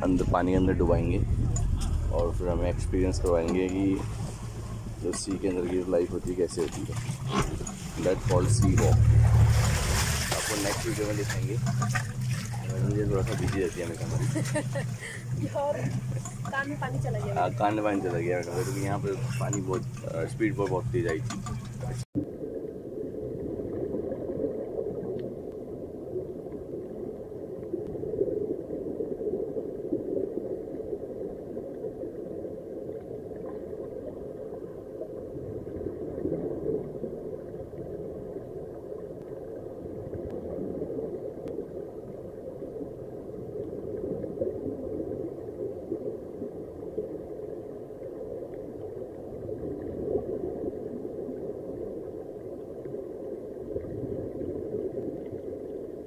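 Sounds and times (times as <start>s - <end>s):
underwater air bubbling: 0.0s - 56.0s.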